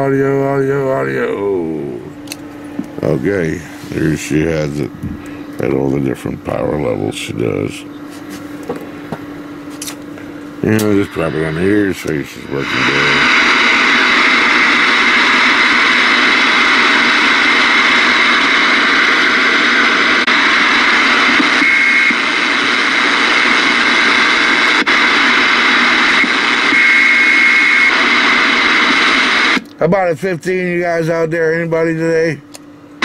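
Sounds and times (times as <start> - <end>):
radio receiver static: 0.0 - 8.5, 9.2 - 32.5.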